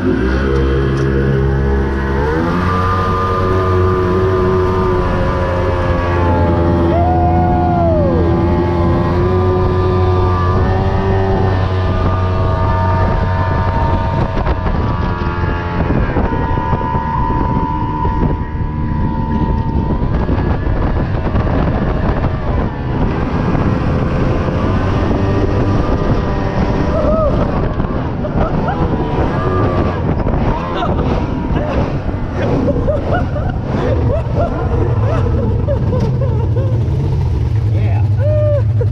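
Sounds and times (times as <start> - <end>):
boat engine running: 0.0 - 38.9
wind buffeting microphone: 0.0 - 38.9.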